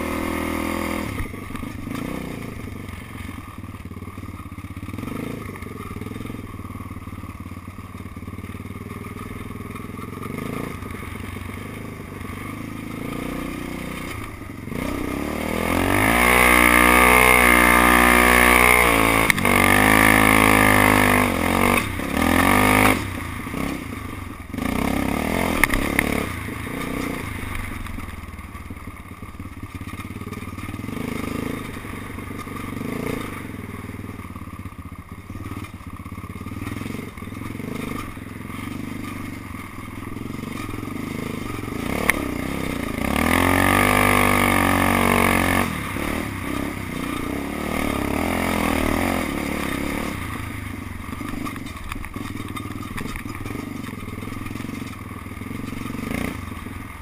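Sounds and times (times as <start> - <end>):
quad engine revving: 0.0 - 3.3, 4.8 - 6.5, 8.6 - 28.1, 29.8 - 34.6, 35.3 - 57.0.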